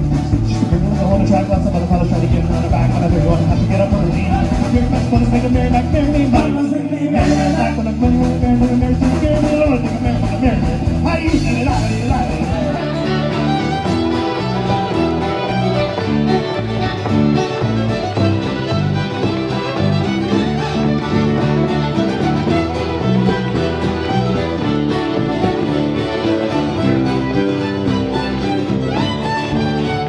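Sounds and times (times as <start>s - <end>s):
fiddle playing: 0.0s - 30.0s
guitars: 0.0s - 30.0s.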